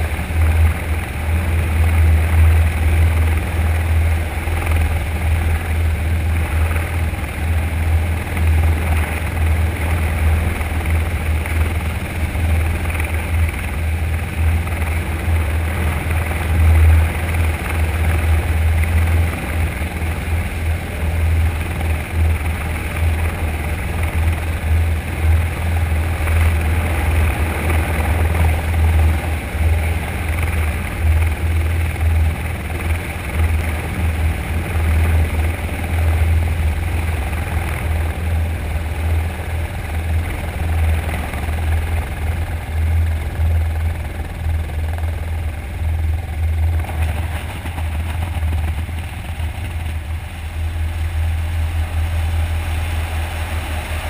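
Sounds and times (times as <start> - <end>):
helicopter engine hiss: 0.0 - 54.0
helicopter rotor churning: 0.0 - 54.0.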